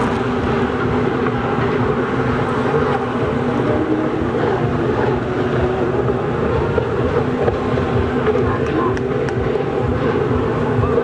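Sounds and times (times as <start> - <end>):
jet ski engines droning: 0.0 - 11.0.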